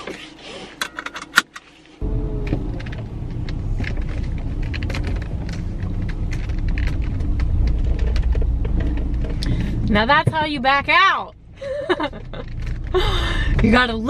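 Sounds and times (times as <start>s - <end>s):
car engine starting: 2.0s - 14.0s.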